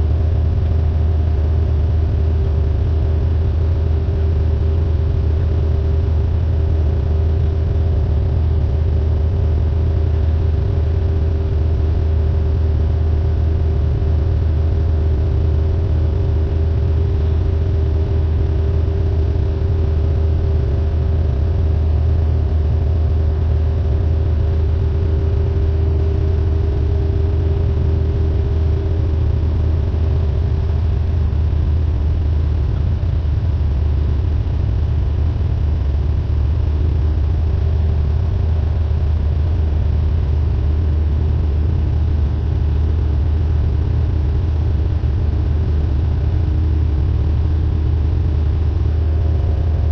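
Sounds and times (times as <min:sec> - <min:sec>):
propeller plane engine drone: 0:00.0 - 0:49.9.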